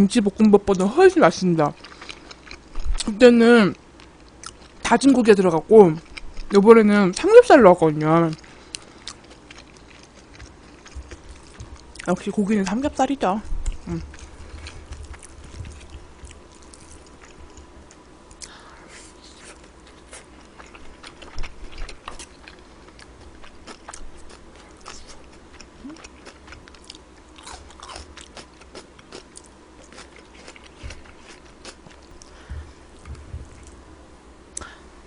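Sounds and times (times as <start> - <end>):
close-miked chewing: 1.6 - 3.2, 4.0 - 5.2, 5.8 - 6.6, 7.5 - 33.8.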